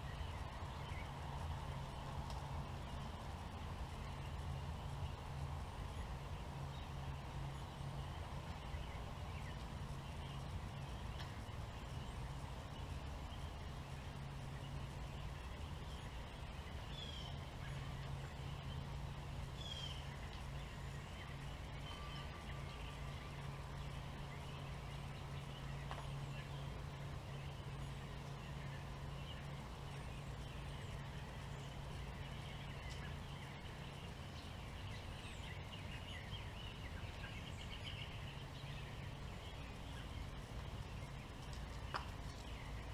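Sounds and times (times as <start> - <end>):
robins chirping: 0.0 - 42.9
steady low hum: 0.0 - 42.9.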